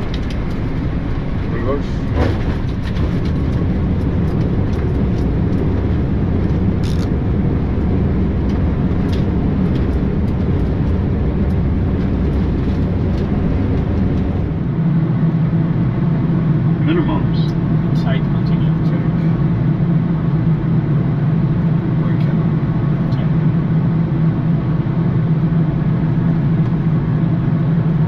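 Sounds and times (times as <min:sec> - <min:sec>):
jet engines reverse thrust rumble: 0:00.0 - 0:28.0.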